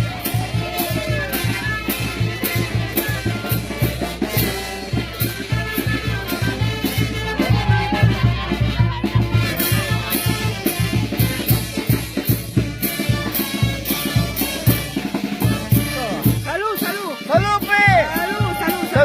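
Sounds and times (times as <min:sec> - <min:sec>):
drum beat: 0:00.0 - 0:19.0
latin dance band music: 0:00.0 - 0:19.0.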